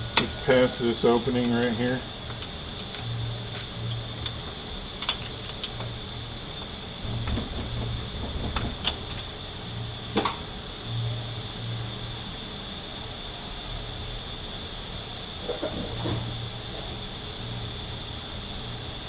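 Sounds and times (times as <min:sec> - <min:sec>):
low hum: 0:00.0 - 0:19.0
steady hiss: 0:00.0 - 0:19.0.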